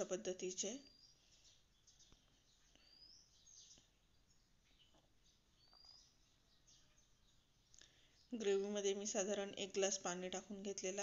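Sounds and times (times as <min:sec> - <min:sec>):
faint bird chirps: 0:00.0 - 0:09.6.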